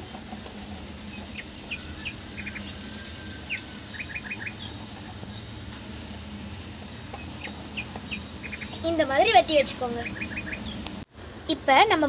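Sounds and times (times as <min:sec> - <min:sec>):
small birds chirping: 0:00.0 - 0:11.0
low background hum: 0:00.0 - 0:12.0.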